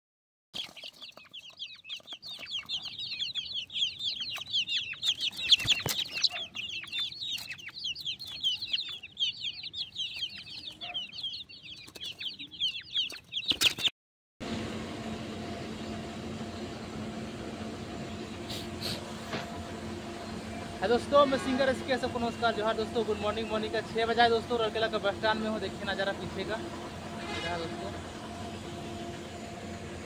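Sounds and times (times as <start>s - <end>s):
chicks peeping: 0.6s - 13.9s, 17.9s - 28.6s.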